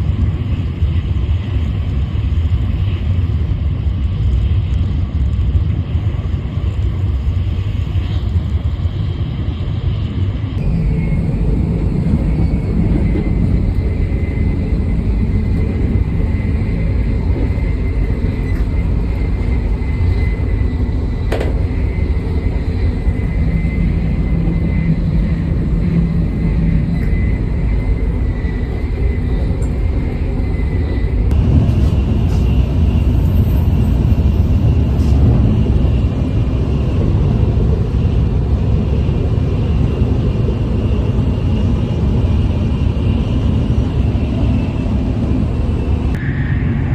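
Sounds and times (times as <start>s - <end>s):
train running rumble: 0.0s - 46.9s
faint high whine: 8.8s - 46.9s.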